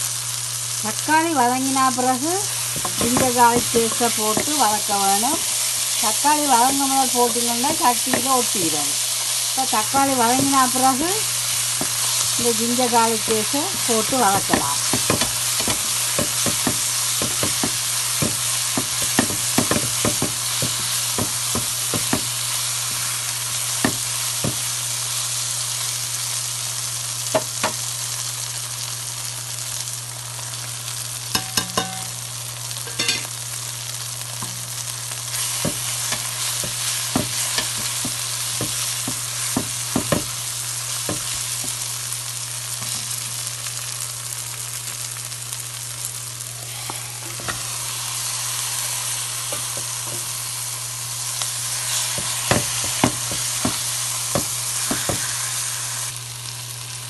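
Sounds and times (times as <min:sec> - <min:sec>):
masala sizzling in oil: 0:00.0 - 0:57.0.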